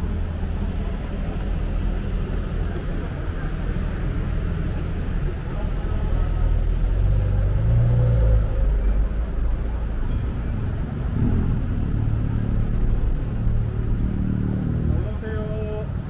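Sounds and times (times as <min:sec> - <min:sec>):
street traffic: 0:00.0 - 0:16.0
vehicle engine rumbling: 0:00.0 - 0:16.0.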